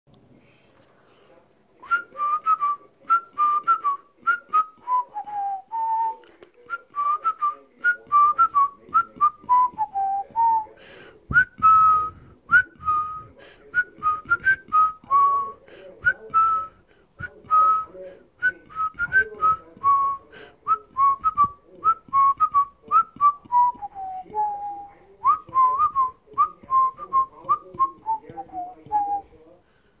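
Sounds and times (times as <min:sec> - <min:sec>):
person whistling a melody: 0:01.8 - 0:10.7, 0:11.3 - 0:29.2.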